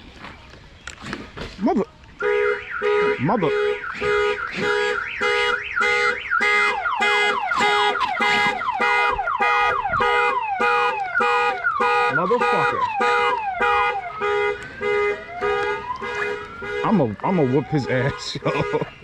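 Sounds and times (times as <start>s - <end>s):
car alarm beeping and chirping: 2.2s - 19.0s.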